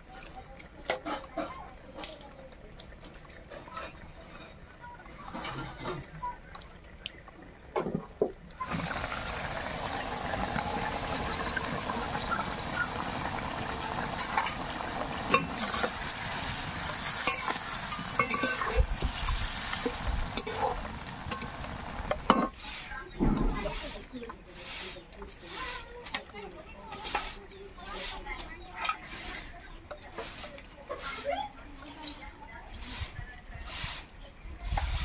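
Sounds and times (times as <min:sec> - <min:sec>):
curry sizzling and bubbling: 0:00.0 - 0:34.1.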